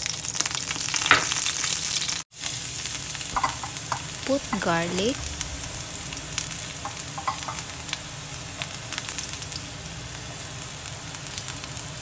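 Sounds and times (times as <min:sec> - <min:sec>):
frying hiss in pan: 0:00.0 - 0:12.0.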